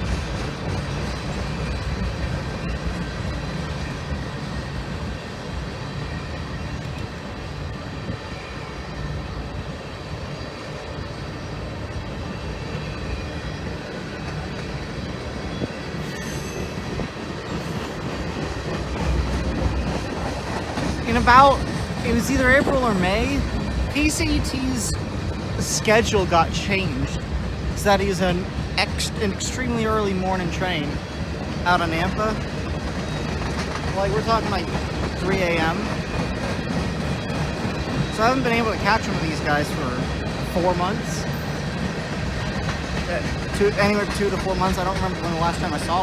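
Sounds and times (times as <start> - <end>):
freight train wheels rumbling on rails: 0.0 - 46.0.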